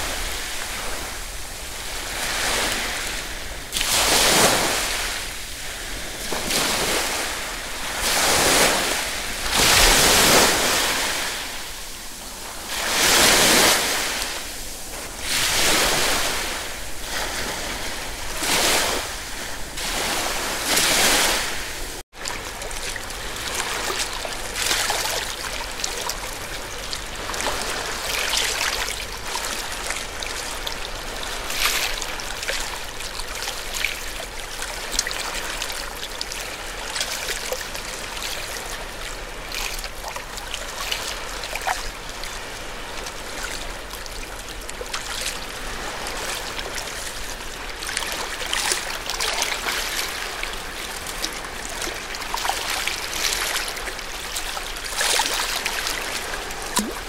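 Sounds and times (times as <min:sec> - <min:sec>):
sea waves breaking on shore: 0:00.0 - 0:57.0
water washing and splashing: 0:00.0 - 0:57.0.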